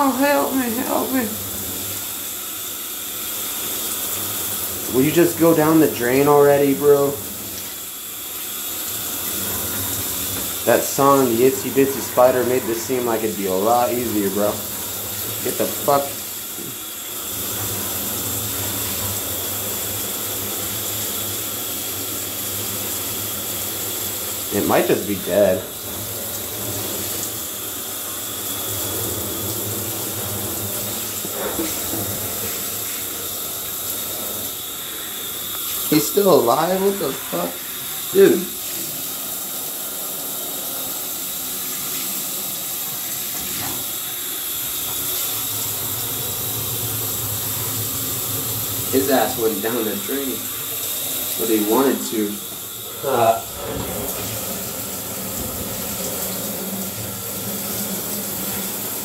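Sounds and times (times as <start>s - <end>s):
shower water running: 0.0s - 59.0s.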